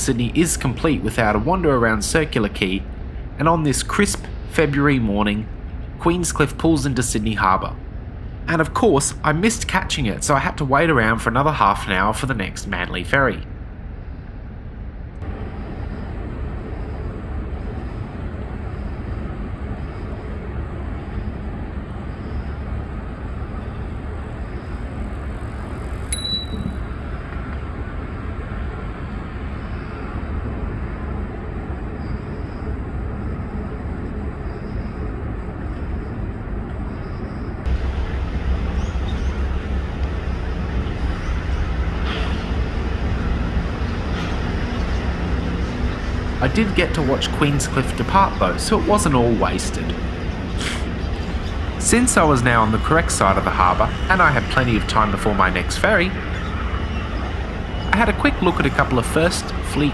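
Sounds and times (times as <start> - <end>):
ferry engines humming: 0.0 - 59.9
harbour ambience rumble: 0.0 - 59.9.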